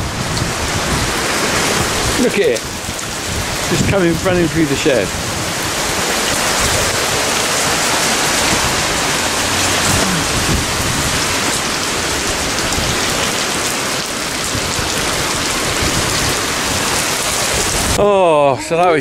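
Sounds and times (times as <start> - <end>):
very heavy rain pouring: 0.0 - 19.0.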